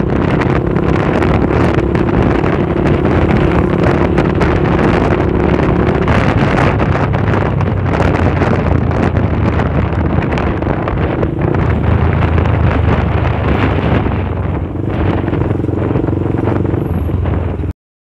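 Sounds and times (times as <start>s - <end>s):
motorcycle engine running: 0.0s - 17.7s
wind buffeting microphone: 0.0s - 17.7s.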